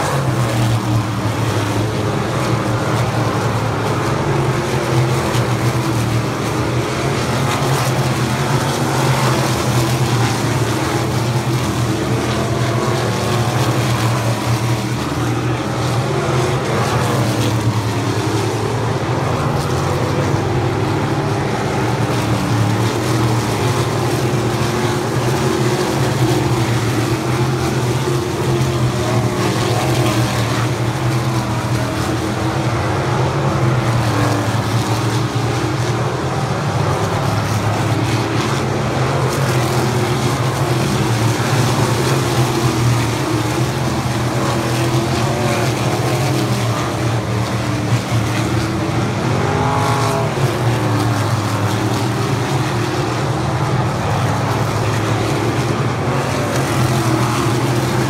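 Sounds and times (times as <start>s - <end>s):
racing car engines droning: 0.0s - 58.0s.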